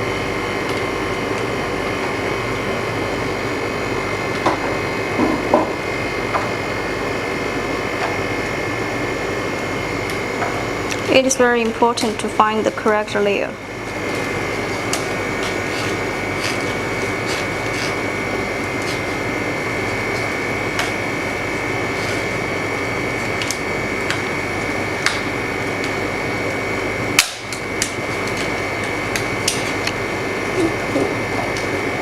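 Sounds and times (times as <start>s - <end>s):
freezer machine humming and whining: 0.0s - 32.0s.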